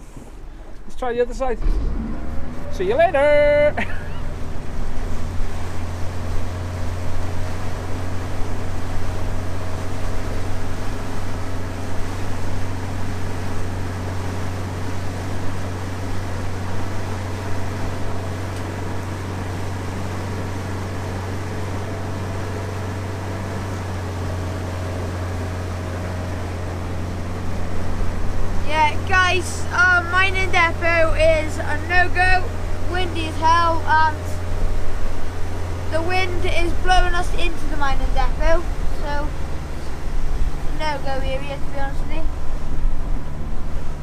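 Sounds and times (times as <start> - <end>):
boat motor humming: 0.0 - 44.0
wind: 0.0 - 44.0
water splashing: 1.4 - 44.0.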